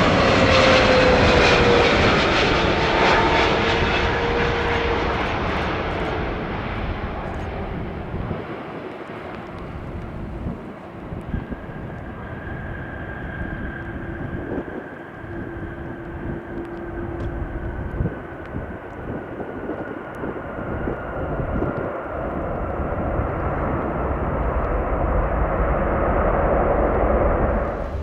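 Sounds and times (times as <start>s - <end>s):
jet engine rushing noise: 0.0s - 28.0s
jet engine whine: 0.0s - 28.0s.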